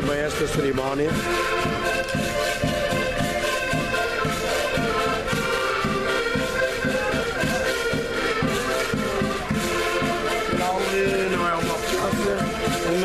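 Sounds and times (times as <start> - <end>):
concertinas playing chords: 0.0 - 13.0.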